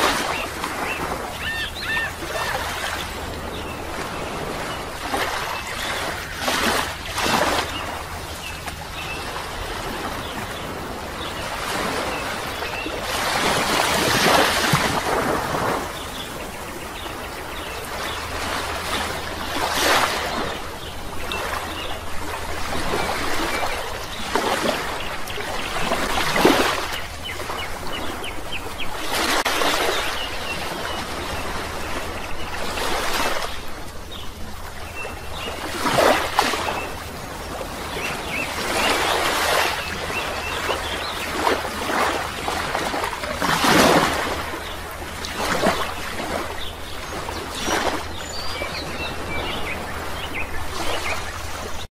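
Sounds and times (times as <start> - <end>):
water surging and bubbling: 0.0 - 51.9.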